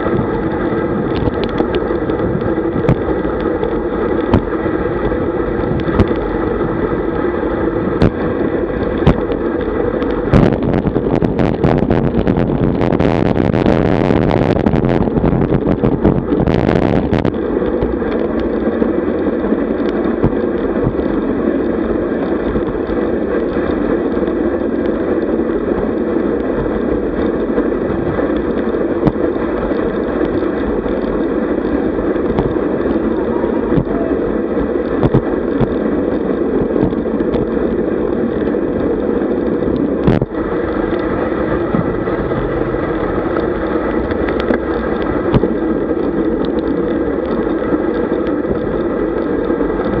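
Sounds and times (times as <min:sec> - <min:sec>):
bicycle tyre and road noise: 0:00.0 - 0:50.0
wind rushing on microphone: 0:00.0 - 0:50.0.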